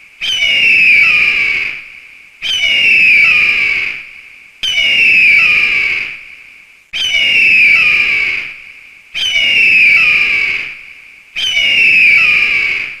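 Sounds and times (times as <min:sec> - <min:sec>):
eagle screaming: 0:00.2 - 0:06.2, 0:07.0 - 0:08.6, 0:09.2 - 0:13.0.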